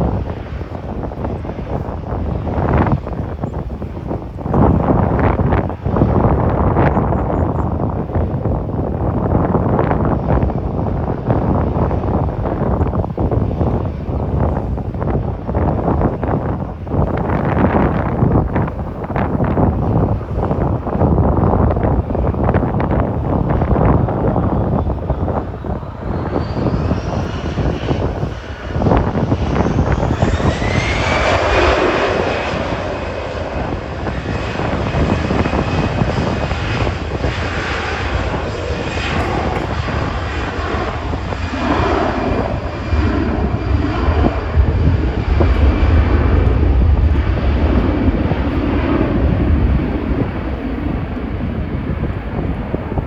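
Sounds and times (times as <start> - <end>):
jet engines whining: 0.0 - 53.0.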